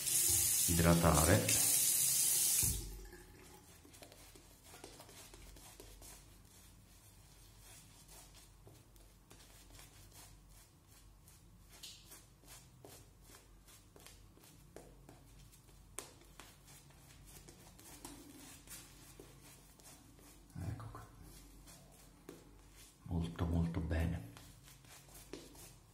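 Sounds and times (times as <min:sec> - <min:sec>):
shaving brush swishing on face: 0:03.4 - 0:23.0, 0:24.3 - 0:25.9.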